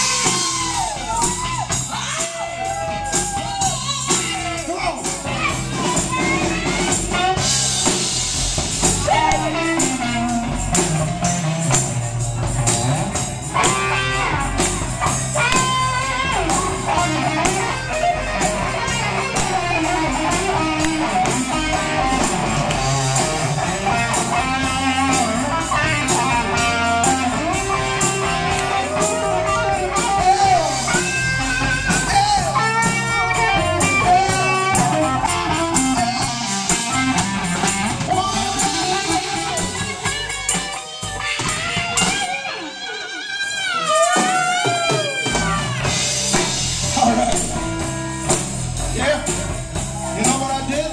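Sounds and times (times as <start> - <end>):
bass guitar: 0.0 - 50.9
drum kit beat: 0.0 - 50.9
electric guitars: 0.0 - 50.9.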